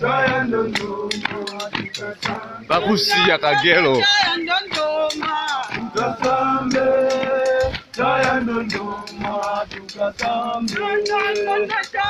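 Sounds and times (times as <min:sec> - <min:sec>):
people singing a chant: 0:00.0 - 0:12.0
sharp beats keeping time: 0:00.0 - 0:12.0.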